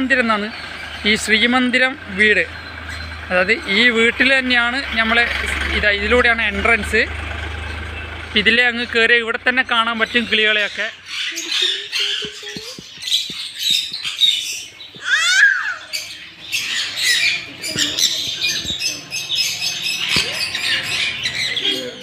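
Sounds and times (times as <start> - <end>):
parrots squawking and chattering: 0.0 - 22.0.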